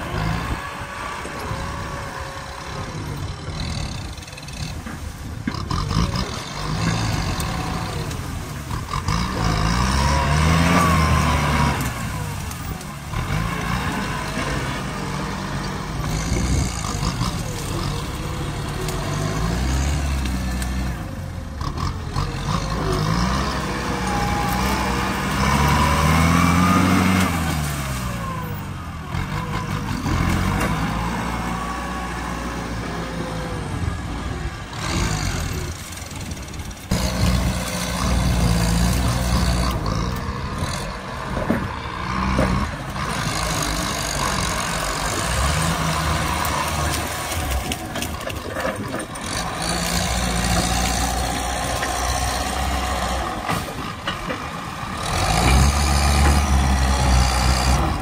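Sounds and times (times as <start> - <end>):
bush being uprooted: 0.0 - 58.0
tractor diesel engine under load: 0.0 - 58.0.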